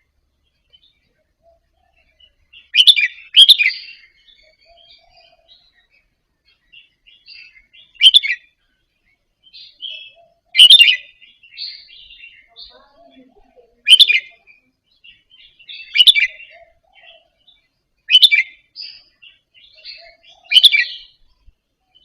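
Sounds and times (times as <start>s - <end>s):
bird singing bright phrases: 0.0s - 22.0s
soft bird twittering: 0.0s - 22.0s.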